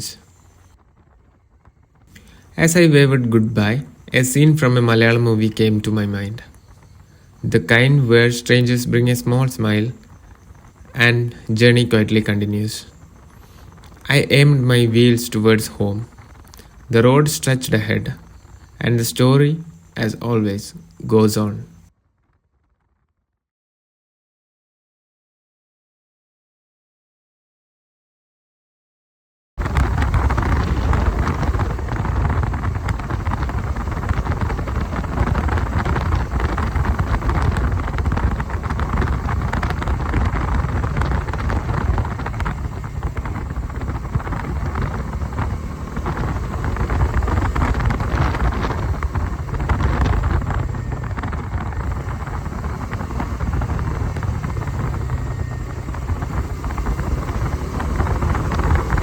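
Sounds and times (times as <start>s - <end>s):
motorcycle engine: 0.0s - 21.9s, 29.6s - 59.0s
wind rushing over microphone: 0.0s - 21.9s, 29.6s - 59.0s.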